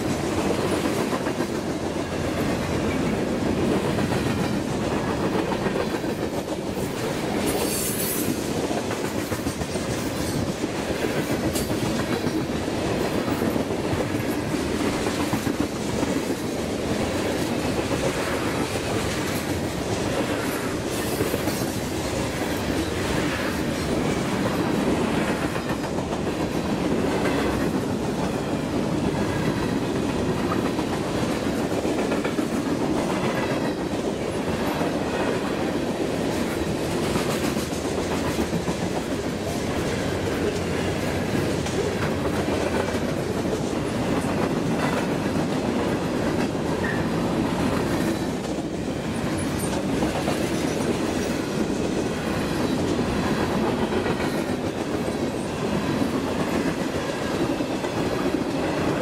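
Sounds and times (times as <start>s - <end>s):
freight train wheels rumbling on rail: 0.0s - 59.0s.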